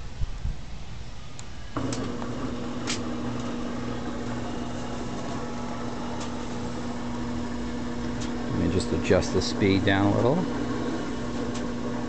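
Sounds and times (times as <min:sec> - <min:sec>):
electric motor humming: 0:01.3 - 0:12.0.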